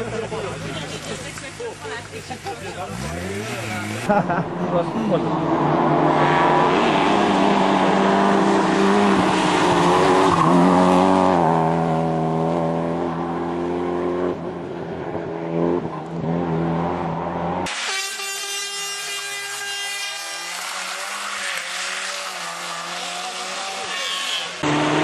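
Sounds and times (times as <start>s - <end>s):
rally car engine at full throttle: 0.0s - 17.9s, 19.1s - 25.0s
thin high rally car engine: 0.0s - 25.0s.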